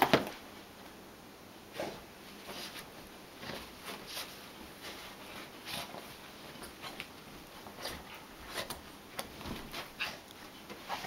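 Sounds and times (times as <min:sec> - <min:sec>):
rustling of blankets: 0:01.6 - 0:11.0
soft scuffles: 0:01.7 - 0:11.0.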